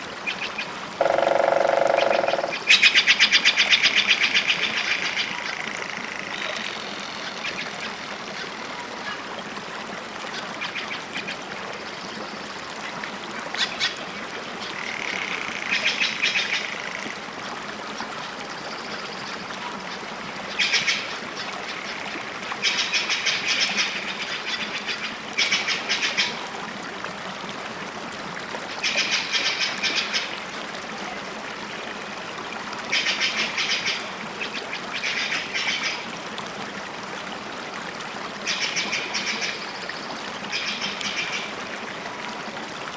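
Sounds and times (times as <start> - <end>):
running water: 0.0 - 42.9.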